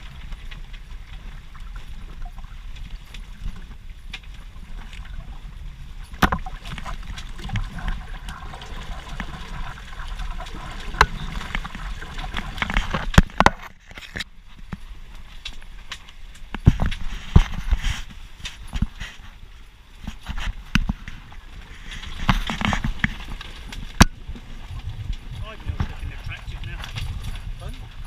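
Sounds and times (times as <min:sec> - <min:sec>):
water splashing along hull: 0:00.0 - 0:28.0
wind rumble on microphone: 0:00.0 - 0:28.0.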